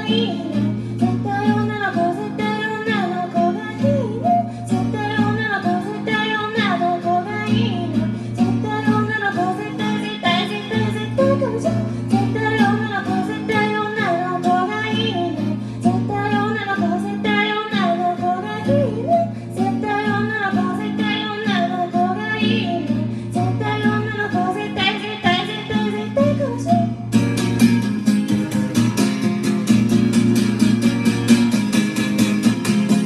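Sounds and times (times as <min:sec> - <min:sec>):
woman singing: 0:00.0 - 0:27.0
acoustic guitar chords: 0:00.0 - 0:33.0.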